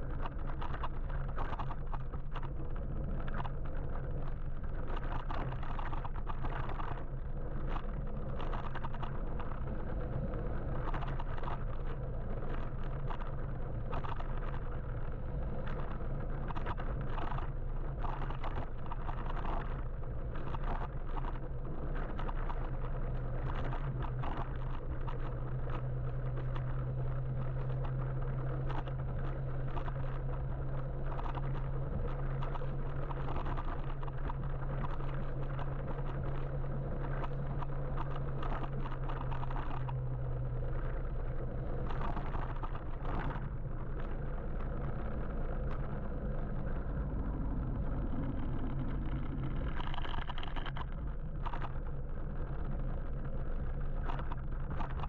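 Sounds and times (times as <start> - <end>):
steady low hum: 0.0 - 55.0
street traffic rumble: 0.0 - 55.0.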